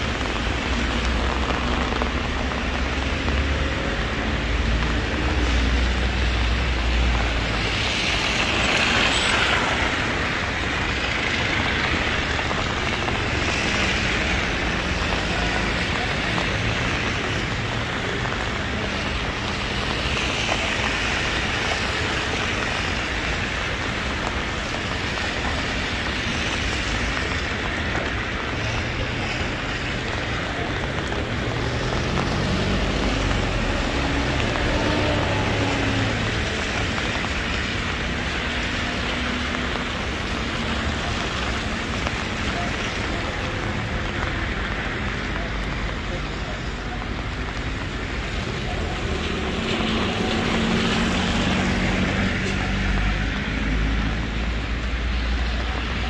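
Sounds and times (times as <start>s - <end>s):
heavy rain falling: 0.0s - 56.0s
traffic on wet street: 0.0s - 56.0s.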